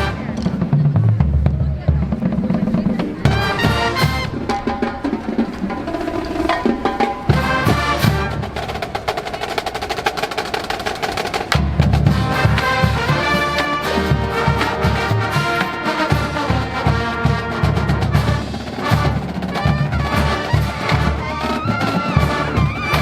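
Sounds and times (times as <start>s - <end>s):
marching band brass: 0.0s - 23.0s
rapid snare drum strokes: 0.0s - 23.0s.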